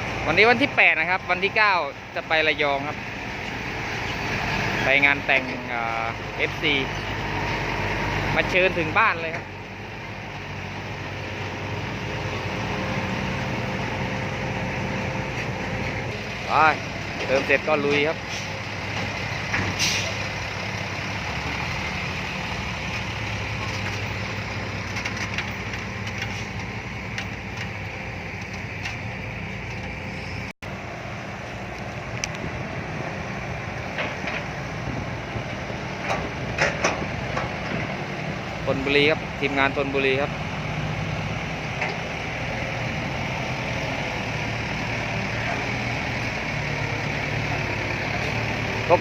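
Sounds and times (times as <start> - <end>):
diesel truck engine running: 0.0 - 49.0.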